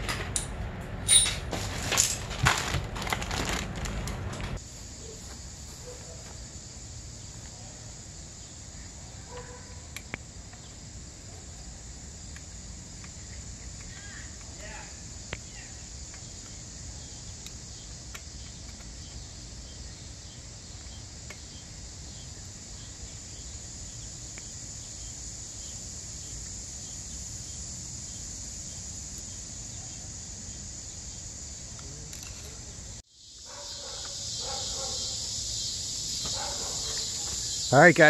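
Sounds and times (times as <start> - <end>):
high-pitched insect chorus: 4.6 - 38.0.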